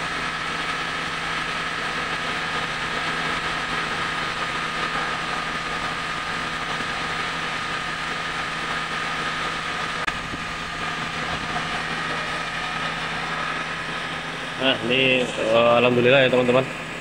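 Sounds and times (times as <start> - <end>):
car engine idling with whine: 0.0 - 17.0.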